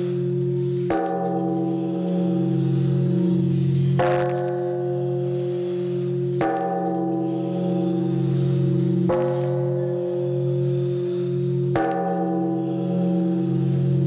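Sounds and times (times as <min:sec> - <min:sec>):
large bell struck with a log: 0:00.0 - 0:14.0.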